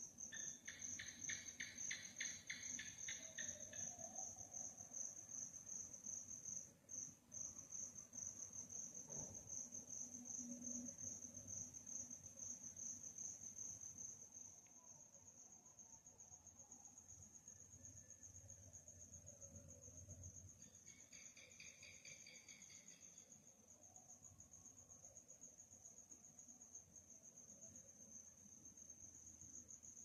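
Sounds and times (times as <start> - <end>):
cricket high continuous trill: 0.0 - 30.0
cricket lower pulsing chirp: 0.0 - 30.0.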